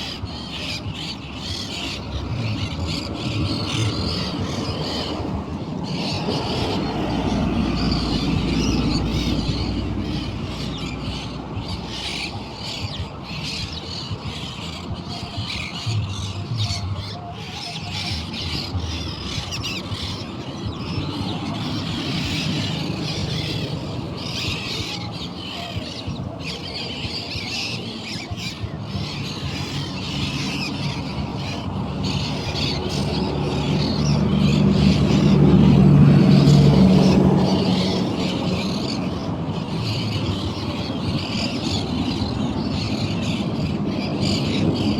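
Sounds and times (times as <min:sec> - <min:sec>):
birds chirping and squawking: 0:00.0 - 0:44.9.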